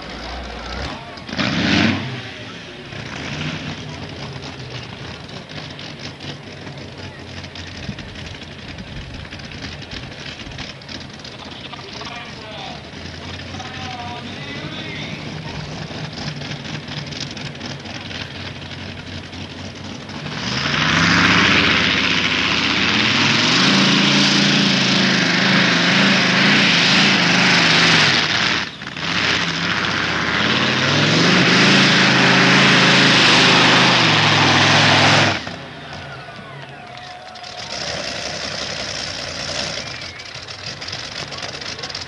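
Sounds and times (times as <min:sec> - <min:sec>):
tractor engine at full throttle: 0:00.0 - 0:42.0.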